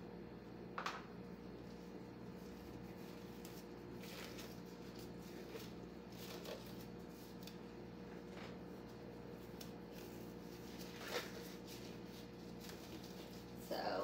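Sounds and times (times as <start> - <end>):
disposable gloves rustling and snapping: 1.6 - 13.6.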